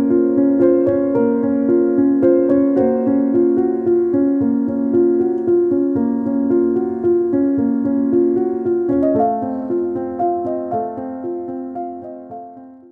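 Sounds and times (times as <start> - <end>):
gentle piano music: 0.0 - 12.9.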